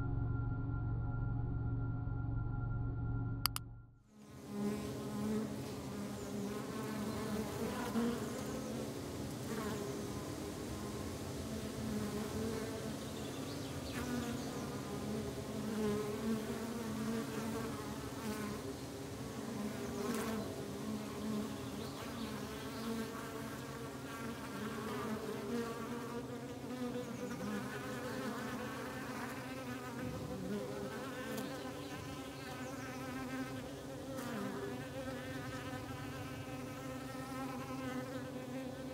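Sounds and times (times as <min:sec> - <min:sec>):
bees buzzing: 0:04.3 - 0:38.9.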